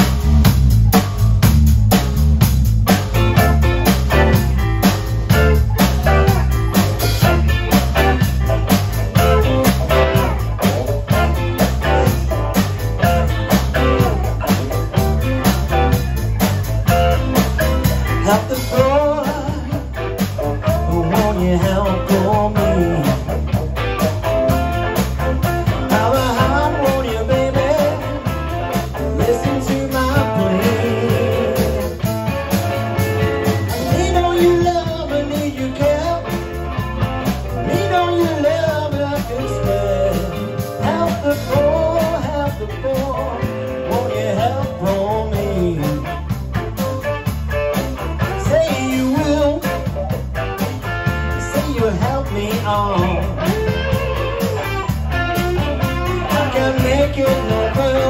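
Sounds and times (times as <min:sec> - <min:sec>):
blues-rock band music: 0:00.0 - 0:58.0.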